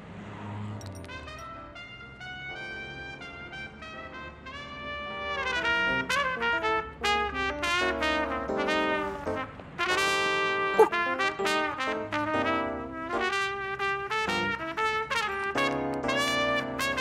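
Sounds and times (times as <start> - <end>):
trumpet playing a melody: 1.1 - 17.0.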